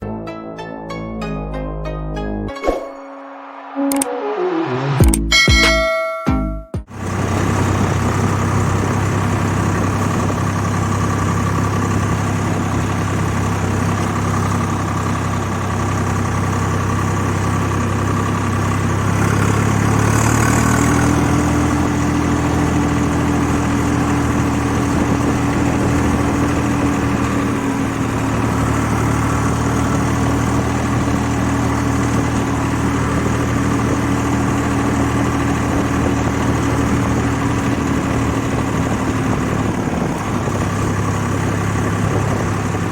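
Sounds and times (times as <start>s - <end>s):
tractor diesel engine running: 6.9s - 42.9s.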